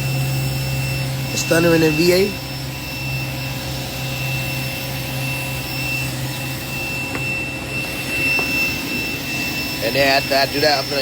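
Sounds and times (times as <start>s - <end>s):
jet engine whining: 0.0s - 11.0s.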